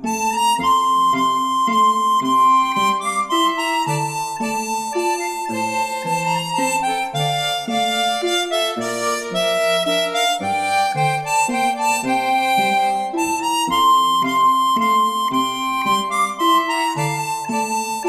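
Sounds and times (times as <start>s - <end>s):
harmonica-like reed melody: 0.0s - 18.0s.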